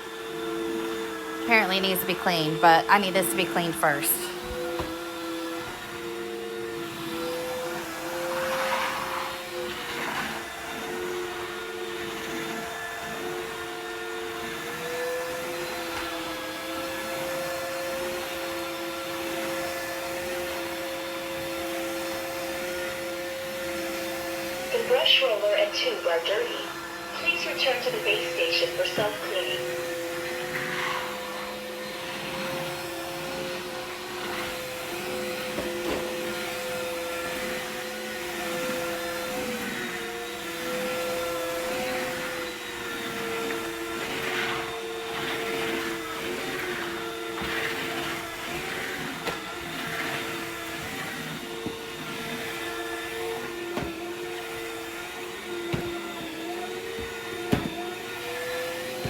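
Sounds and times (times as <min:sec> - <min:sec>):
vacuum mop motor hum: 0:00.0 - 0:59.0.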